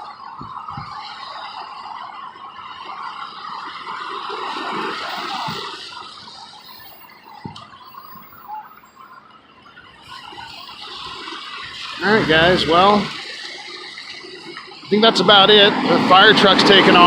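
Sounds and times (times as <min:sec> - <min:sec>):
tyres hissing on wet road: 0:00.1 - 0:17.0.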